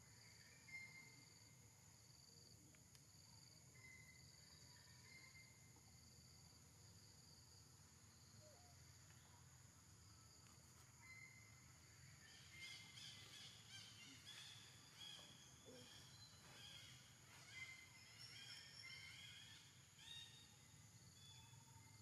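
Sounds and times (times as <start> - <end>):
steady insect drone: 0.0 - 22.0.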